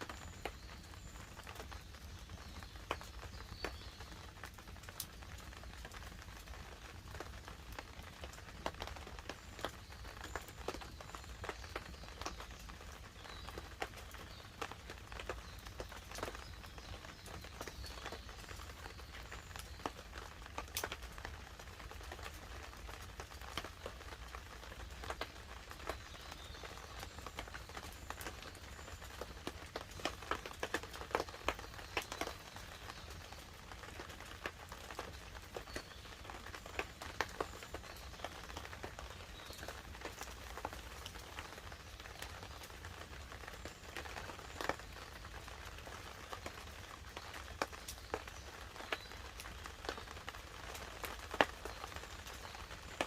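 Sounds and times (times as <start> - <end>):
burning wood popping: 0.0 - 53.0
campfire crackling: 0.0 - 53.0
rain pattering on a tarp: 0.0 - 53.0.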